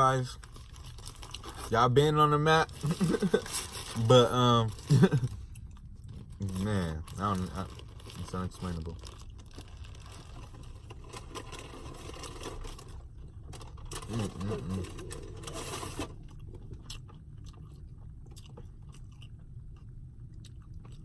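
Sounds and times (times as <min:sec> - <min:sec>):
chewing crispy chicken sandwich: 0:02.6 - 0:21.0.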